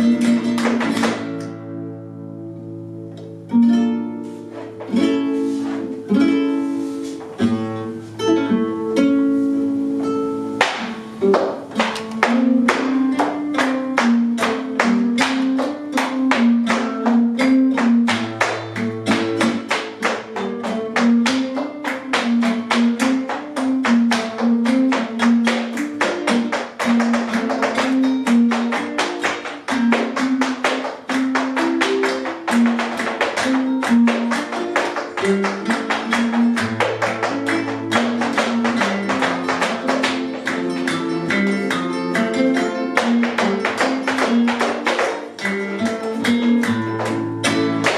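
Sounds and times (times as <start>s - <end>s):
flamenco guitars playing: 0.0s - 47.9s.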